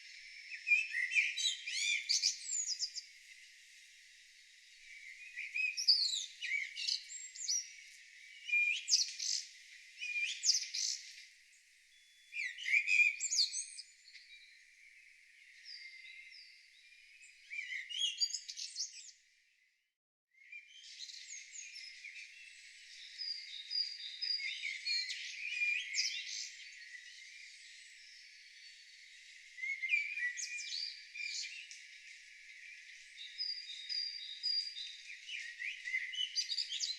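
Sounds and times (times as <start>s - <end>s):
songbirds chirping and trilling: 0.0s - 19.8s, 20.4s - 36.9s.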